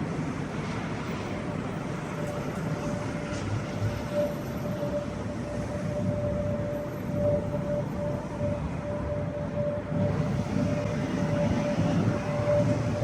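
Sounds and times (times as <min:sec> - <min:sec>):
low rumbling from the sky: 0:00.0 - 0:13.0
thin wavering tone: 0:01.6 - 0:13.0.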